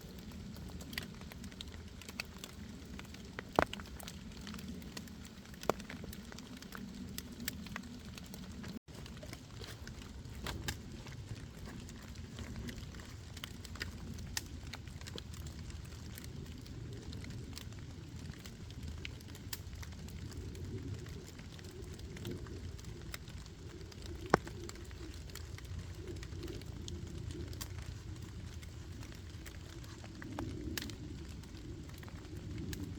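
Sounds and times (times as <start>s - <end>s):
wood campfire crackling: 0.0s - 32.9s.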